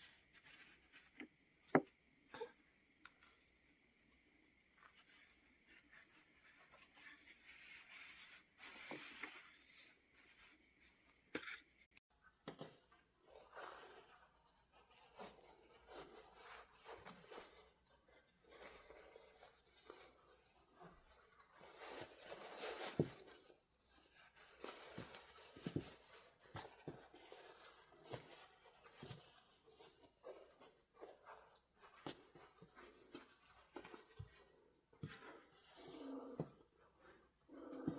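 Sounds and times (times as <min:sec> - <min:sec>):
needle and thread through cloth: 0:00.0 - 0:02.5, 0:04.6 - 0:37.9.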